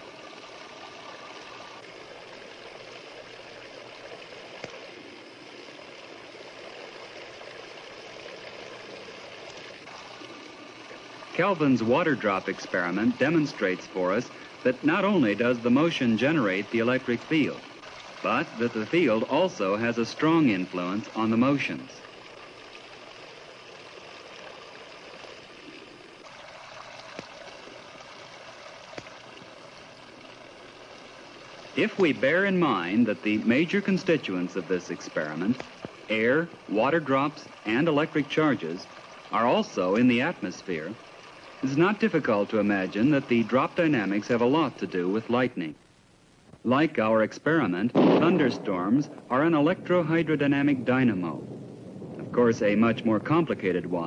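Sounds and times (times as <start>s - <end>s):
water streams splashing: 0.0s - 45.7s, 47.5s - 54.0s.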